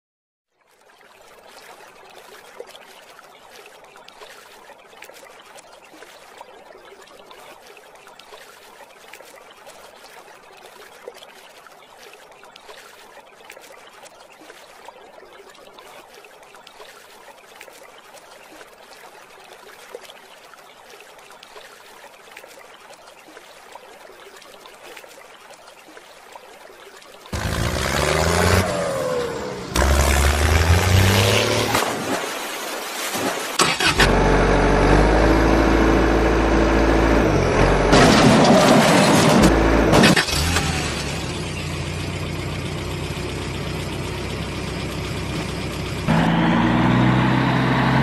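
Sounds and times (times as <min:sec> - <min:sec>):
water washing over sand: 0:00.8 - 0:42.0.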